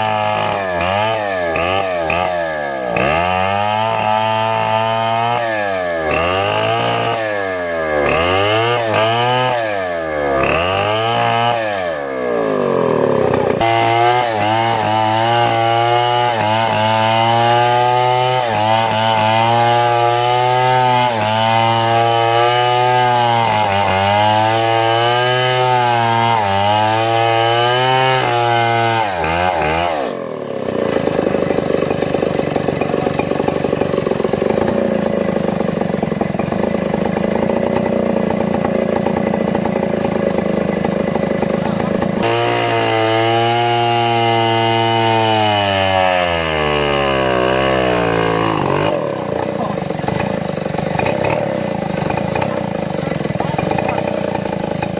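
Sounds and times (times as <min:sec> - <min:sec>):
chainsaw cutting wood: 0:00.0 - 0:54.9
chainsaw running: 0:00.0 - 0:54.9.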